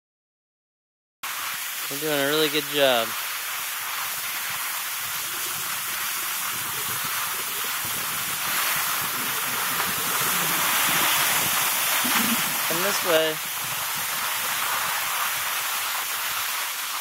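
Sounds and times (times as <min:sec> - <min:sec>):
skis sliding over snow: 0:01.3 - 0:17.0.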